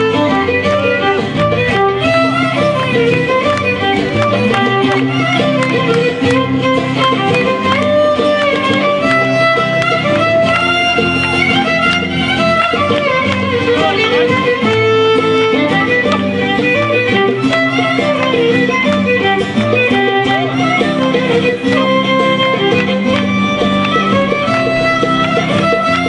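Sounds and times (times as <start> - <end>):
plucked-string accompaniment: 0.0 - 26.0
violin melody: 0.0 - 26.0.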